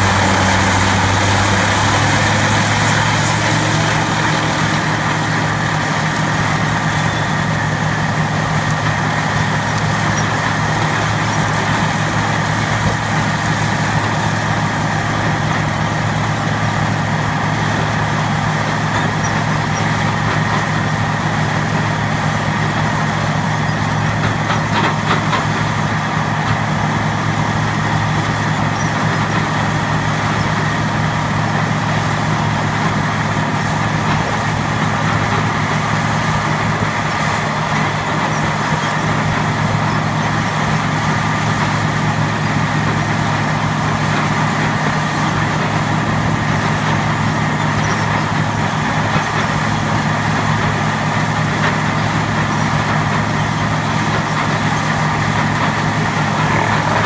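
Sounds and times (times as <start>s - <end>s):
large engine running: 0.0s - 57.0s.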